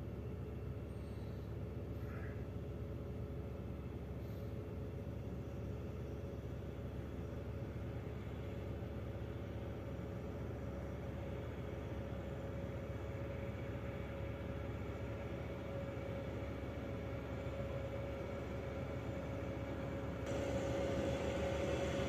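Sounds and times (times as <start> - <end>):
heavy truck engines rumbling: 0.7 - 22.0.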